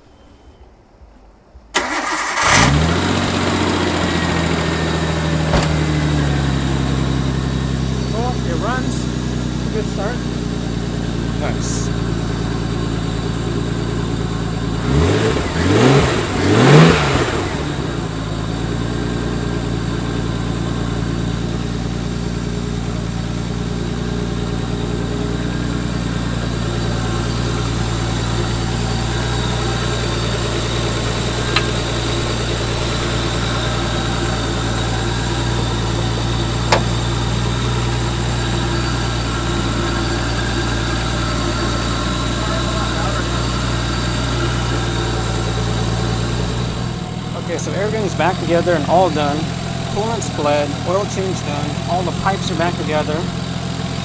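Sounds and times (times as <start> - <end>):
car engine revving and idling: 1.8 - 54.0.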